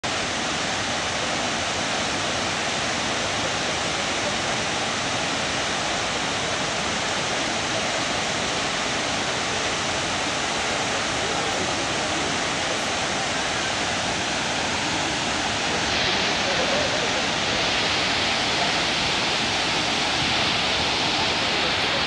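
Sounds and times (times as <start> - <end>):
fast-flowing water rushing: 0.0 - 22.0.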